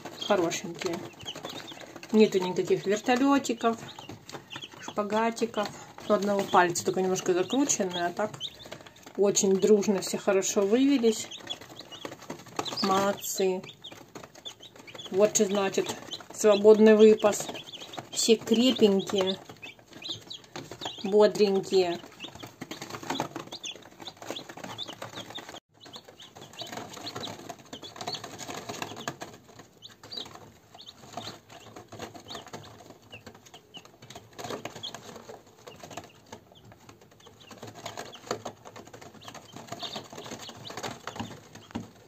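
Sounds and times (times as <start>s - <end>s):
chicks peeping: 0.0s - 42.0s
chicks scratching and rustling: 0.0s - 42.0s.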